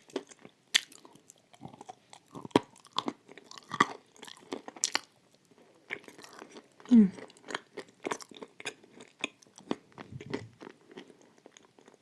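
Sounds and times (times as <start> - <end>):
chewing and crunching: 0.0 - 12.0.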